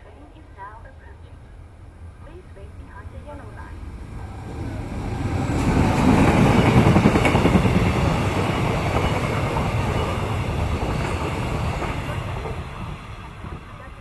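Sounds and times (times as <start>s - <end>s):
passenger train passing: 0.0s - 14.0s.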